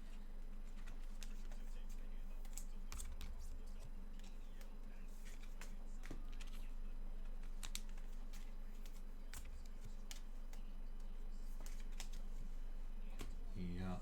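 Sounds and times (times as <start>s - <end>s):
steady low hum: 0.0s - 14.0s
cards clicking and rustling: 0.5s - 12.4s.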